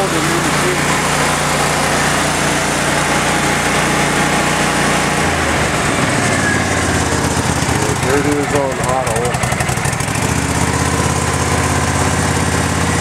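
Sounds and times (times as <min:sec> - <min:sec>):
welding machine engine running: 0:00.0 - 0:13.0.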